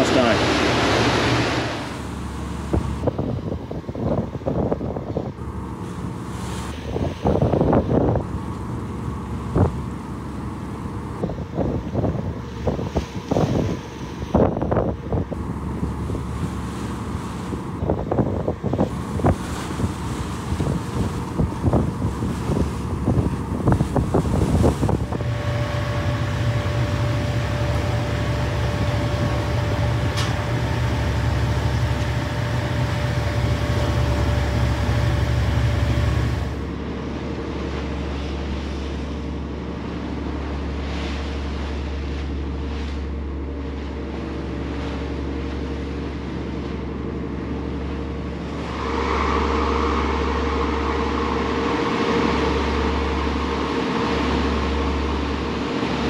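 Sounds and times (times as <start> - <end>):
boat engine droning: 0.0 - 56.0
higher hum: 0.0 - 56.0.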